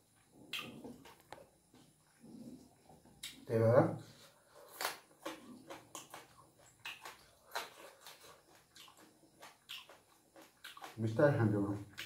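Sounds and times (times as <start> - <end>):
chewing and lip-smacking: 0.2 - 3.4, 4.7 - 11.1, 11.7 - 12.0.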